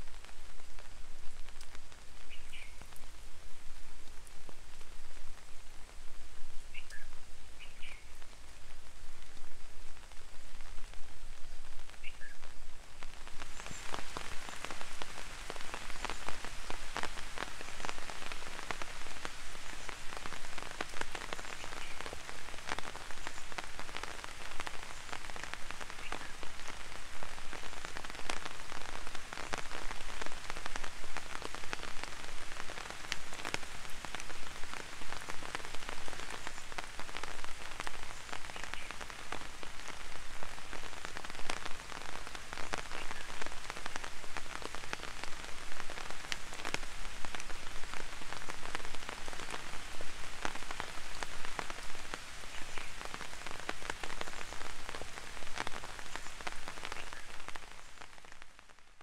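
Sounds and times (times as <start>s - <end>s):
light rain hiss: 0.0s - 59.0s.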